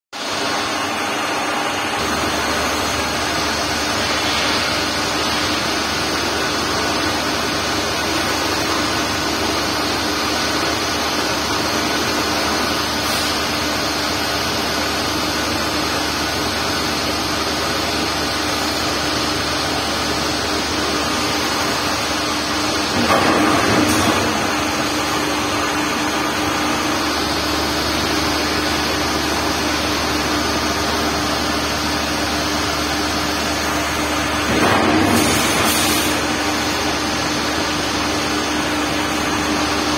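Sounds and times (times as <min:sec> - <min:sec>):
lathe machine hum: 0:00.2 - 0:34.7.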